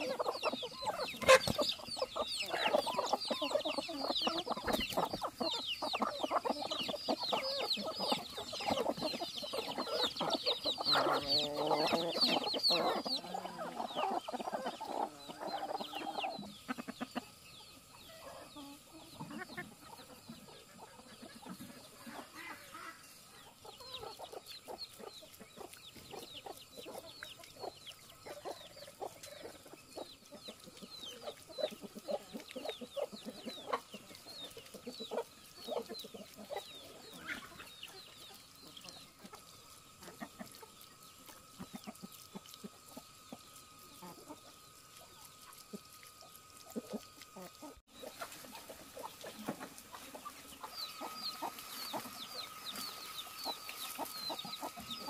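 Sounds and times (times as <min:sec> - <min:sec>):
chicks peeping: 0:00.0 - 0:55.0
hens clucking: 0:00.0 - 0:55.0.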